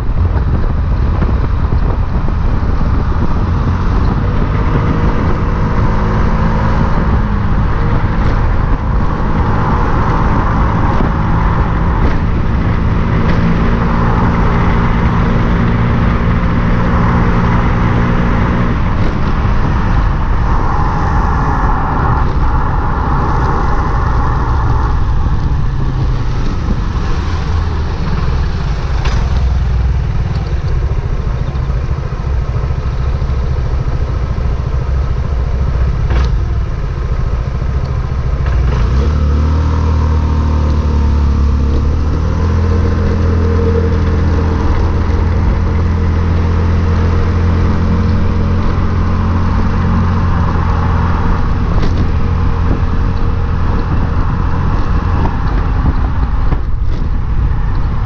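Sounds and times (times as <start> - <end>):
motorcycle engine running: 0.0 - 58.0
wind and tyre noise: 0.0 - 58.0.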